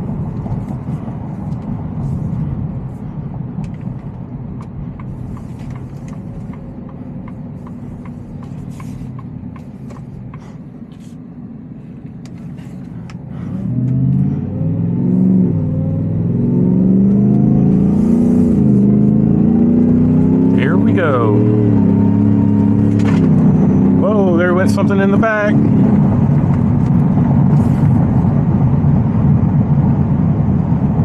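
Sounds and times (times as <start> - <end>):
truck engine rumbling and revving: 0.0 - 31.0.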